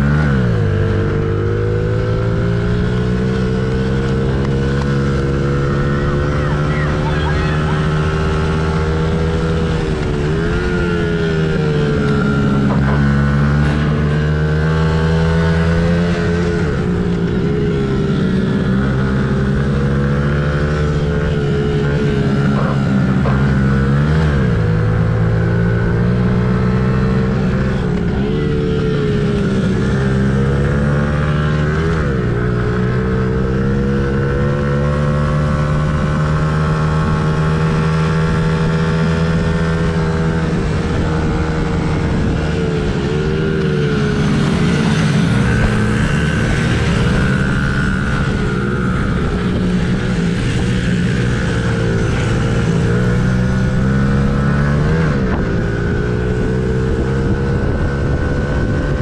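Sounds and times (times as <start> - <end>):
small motorbike engine revving: 0.0 - 59.0.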